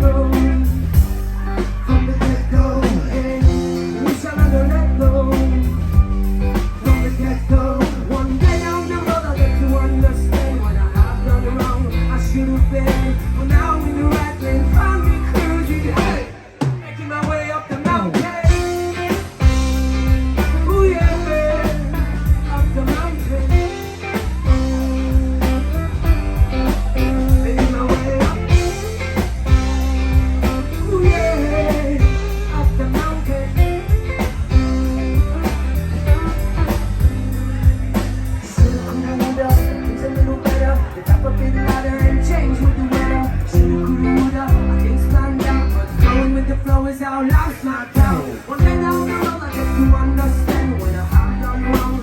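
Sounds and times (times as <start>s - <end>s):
live blues-rock band playing: 0.0s - 52.0s.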